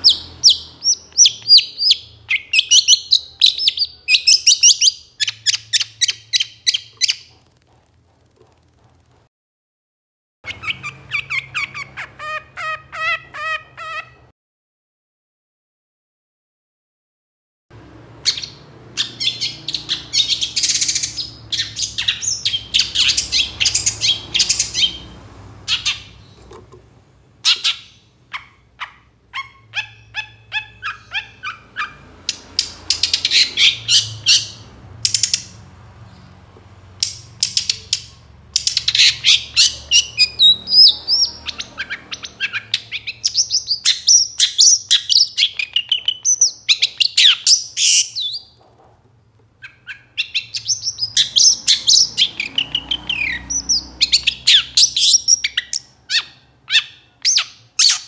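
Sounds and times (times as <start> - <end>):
bird harsh chattering song: 0.0 - 7.4, 10.5 - 14.3, 18.2 - 26.5, 27.4 - 36.3, 37.0 - 48.6, 49.6 - 58.0.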